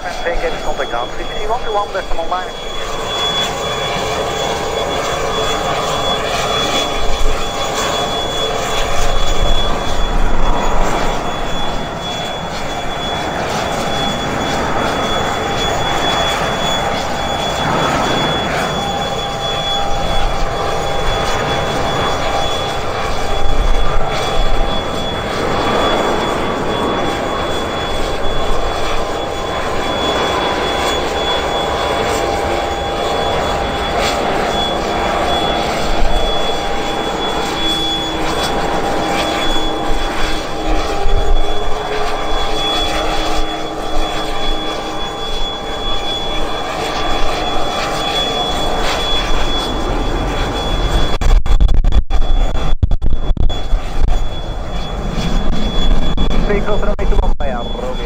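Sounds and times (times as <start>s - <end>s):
aircraft turbine engines roaring: 0.0s - 58.0s.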